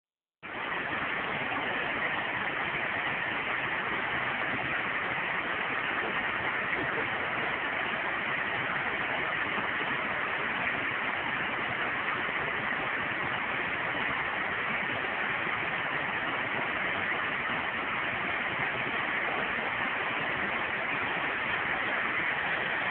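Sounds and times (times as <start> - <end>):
river water rushing over rocks: 0.4 - 22.9.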